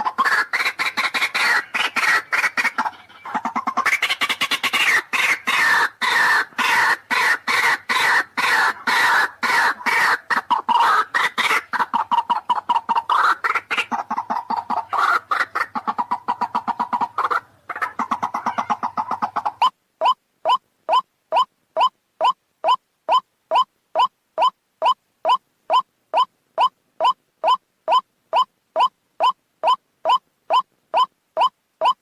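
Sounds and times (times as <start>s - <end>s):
bird harsh clucking calls: 0.0s - 32.0s.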